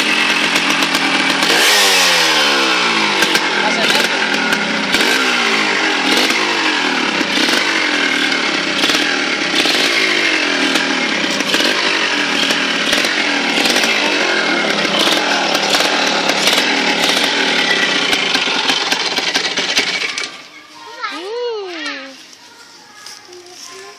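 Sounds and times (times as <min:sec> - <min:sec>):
small two-stroke engine revving: 0:00.0 - 0:20.5.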